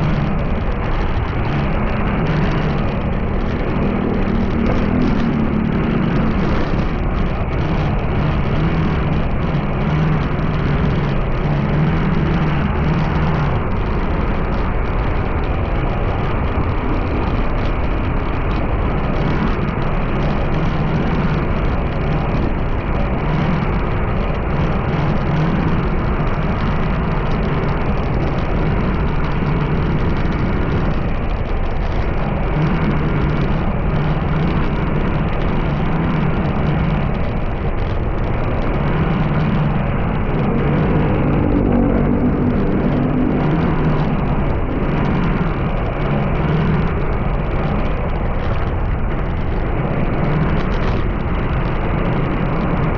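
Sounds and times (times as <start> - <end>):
low engine drone: 0.0 - 52.9
vehicle road noise: 0.0 - 52.9.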